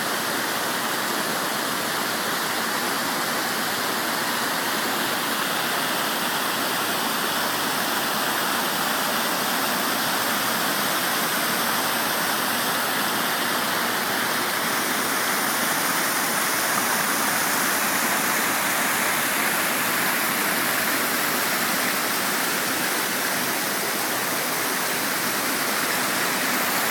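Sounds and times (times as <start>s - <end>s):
river water rushing: 0.0s - 26.9s.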